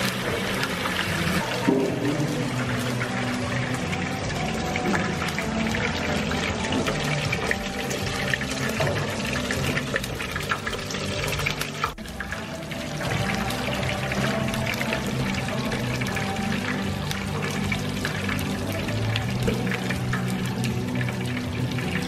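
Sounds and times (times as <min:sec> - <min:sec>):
oil sizzling in deep fryer: 0:00.0 - 0:22.0.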